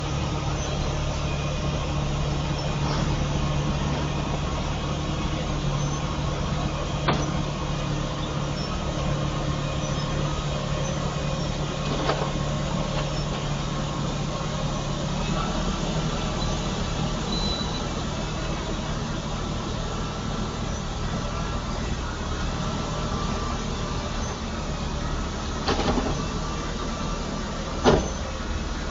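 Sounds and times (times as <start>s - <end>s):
heavy engine drone: 0.0s - 28.9s.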